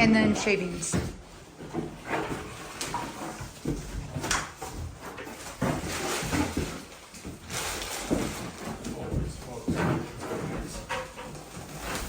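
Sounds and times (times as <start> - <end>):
knocks and rustling in pen: 0.0 - 12.0.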